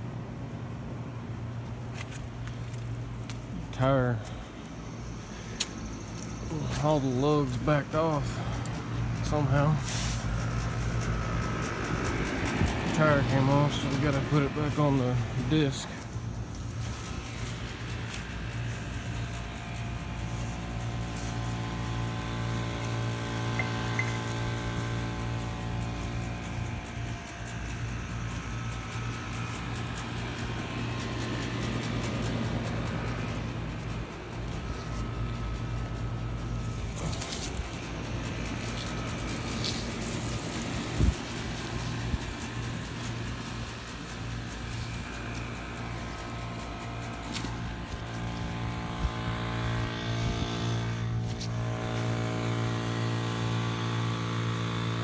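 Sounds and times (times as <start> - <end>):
motor humming steadily: 0.0 - 55.0.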